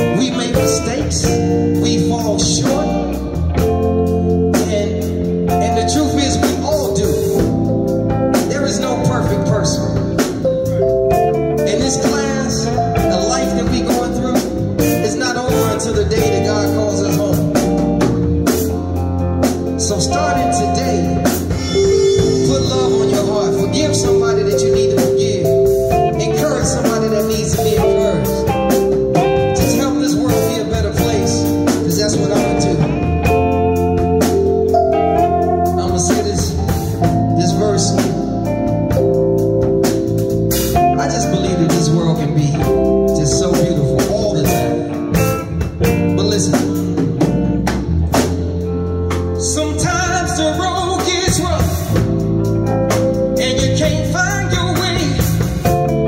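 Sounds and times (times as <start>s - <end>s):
gospel band playing with singing: 0.0s - 56.0s.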